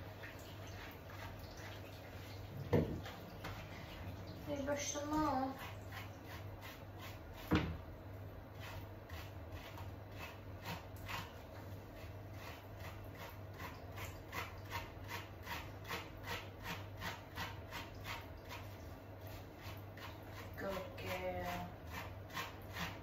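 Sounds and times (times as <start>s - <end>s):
brush scratching through wet fur: 0.2s - 7.6s, 8.5s - 23.0s.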